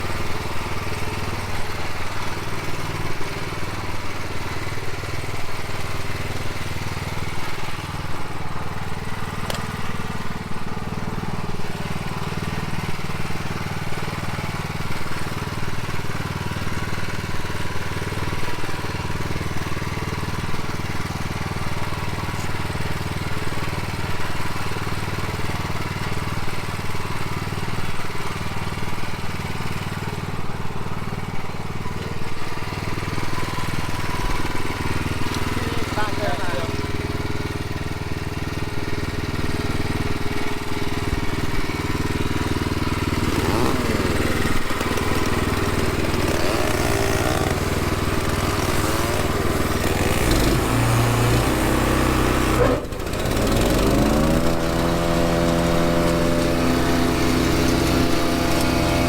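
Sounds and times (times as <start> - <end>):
branch chipper engine running: 0.0 - 59.0.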